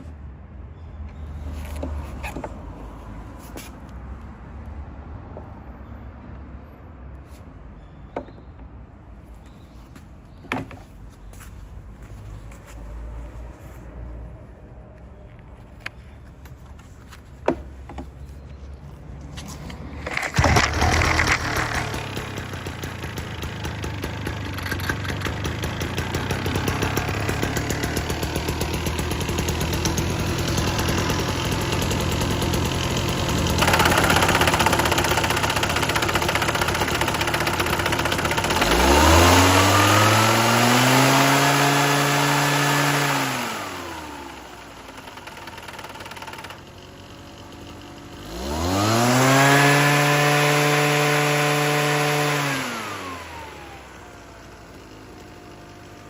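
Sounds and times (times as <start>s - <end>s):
small engine idling and revving: 1.1s - 4.6s, 12.0s - 56.0s.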